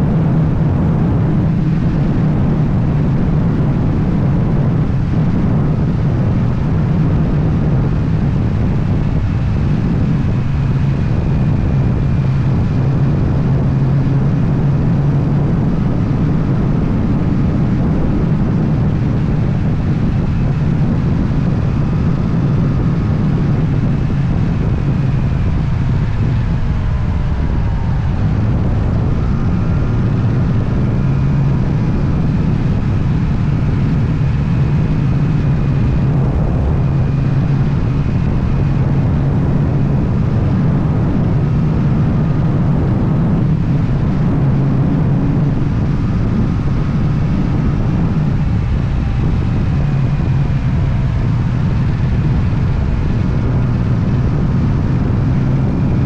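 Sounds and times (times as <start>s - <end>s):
motorcycle engine running: 0.0s - 56.0s
road and air noise: 0.0s - 56.0s.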